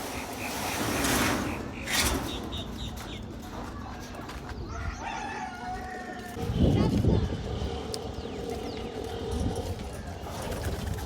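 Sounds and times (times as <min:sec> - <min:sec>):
birds chirping: 0:00.0 - 0:05.5, 0:06.2 - 0:10.8.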